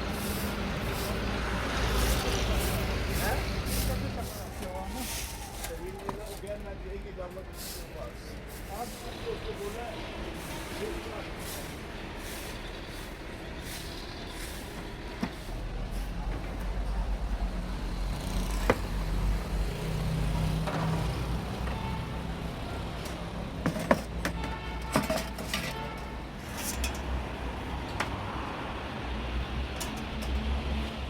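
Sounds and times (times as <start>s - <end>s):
vehicle engines rumbling: 0.0s - 31.0s.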